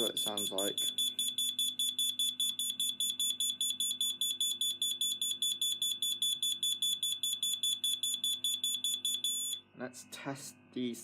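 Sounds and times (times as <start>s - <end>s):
alarm beeping rapidly: 0.0s - 9.6s.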